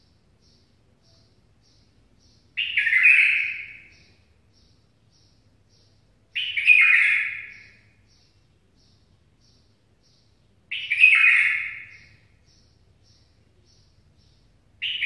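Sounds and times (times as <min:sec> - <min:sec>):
bulbul warbled song: 0:00.0 - 0:15.0
faint high chirps: 0:00.0 - 0:15.0.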